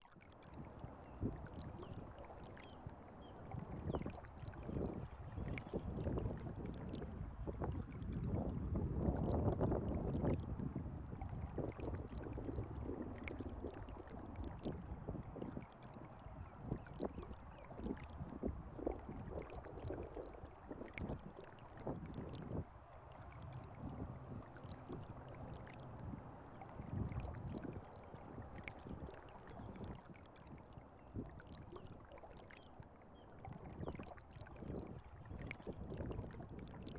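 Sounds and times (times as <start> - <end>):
shallow water lapping: 0.0 - 36.9
small clicks and splashes: 0.0 - 36.9.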